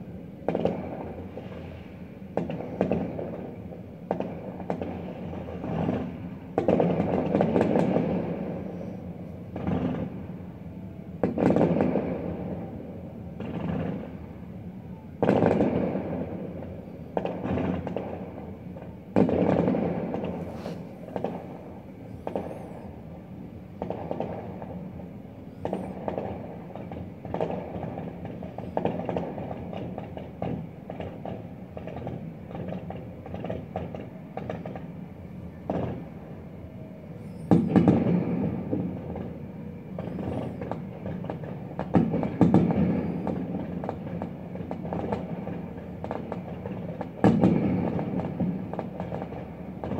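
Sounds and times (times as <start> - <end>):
fireworks booming and crackling: 0.4 - 49.9.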